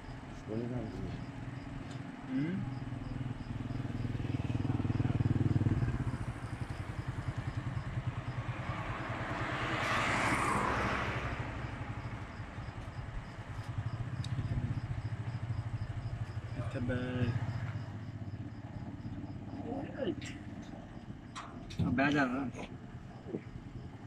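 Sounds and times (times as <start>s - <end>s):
low engine hum: 0.0s - 24.0s
motorcycle passing: 0.0s - 24.0s.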